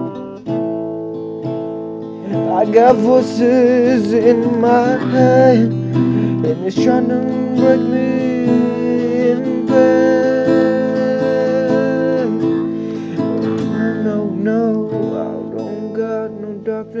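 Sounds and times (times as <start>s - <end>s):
acoustic guitar strumming: 0.0s - 17.0s
man singing: 2.2s - 17.0s.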